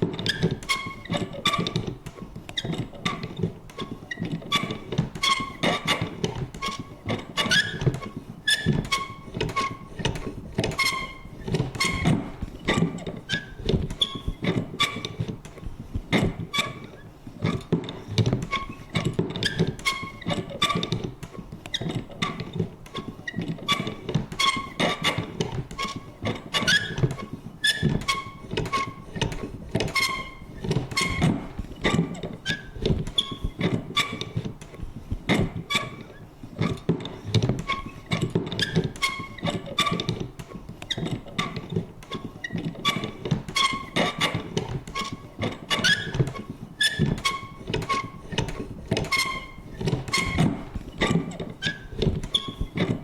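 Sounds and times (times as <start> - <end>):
squeaky mechanism creaks: 0.0 - 53.0.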